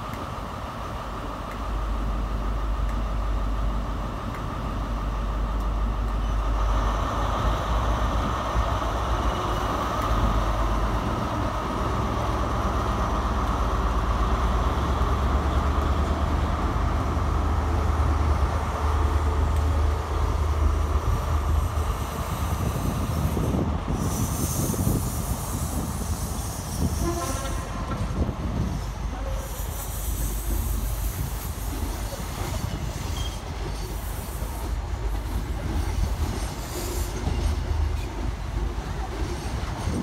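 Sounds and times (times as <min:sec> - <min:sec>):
diesel train engine: 0:00.0 - 0:40.0.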